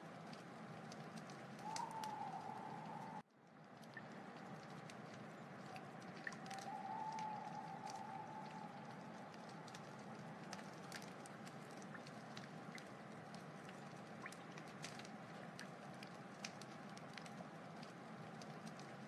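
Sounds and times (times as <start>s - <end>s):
soft steady hiss: 0.0s - 19.0s
wood fire crackling: 0.0s - 19.0s.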